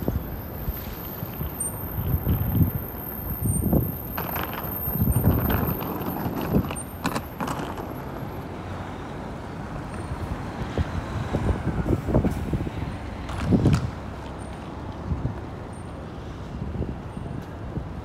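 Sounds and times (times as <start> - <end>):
traffic hum: 0.0 - 18.0.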